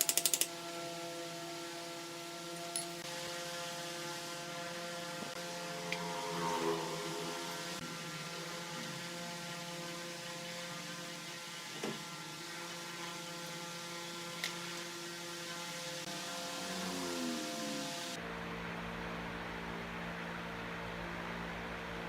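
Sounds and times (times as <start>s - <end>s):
electric machine hum: 0.0s - 22.0s.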